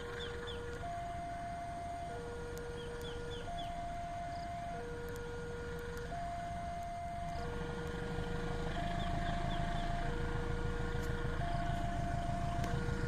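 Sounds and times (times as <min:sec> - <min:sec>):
level-crossing alarm: 0:00.0 - 0:13.0
locomotive rumble: 0:00.0 - 0:13.0.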